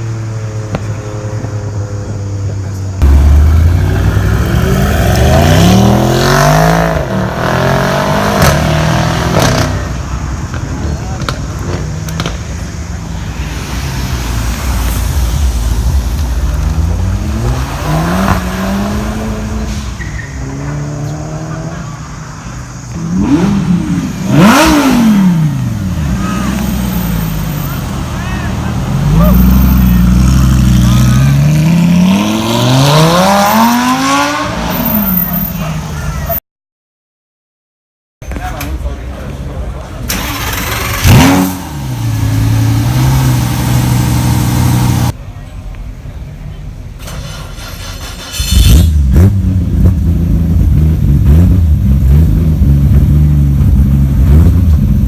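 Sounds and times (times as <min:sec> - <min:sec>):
car engines revving: 0:00.0 - 0:36.4, 0:38.3 - 0:55.0.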